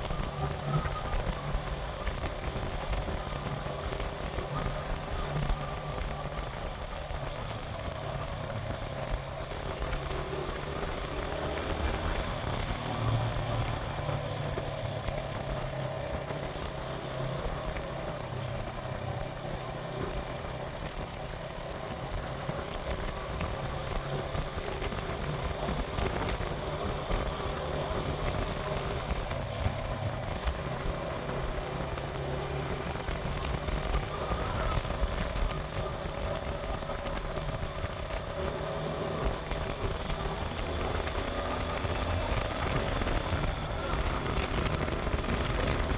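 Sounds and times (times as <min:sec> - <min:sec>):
constant hiss: 0:00.0 - 0:45.9
motorcycle engine running: 0:00.0 - 0:45.9.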